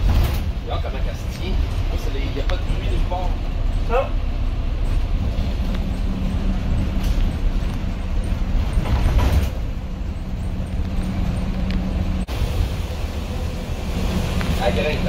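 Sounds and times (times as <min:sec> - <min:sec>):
bus engine running: 0:00.0 - 0:15.0
gear shifting: 0:01.1 - 0:15.0.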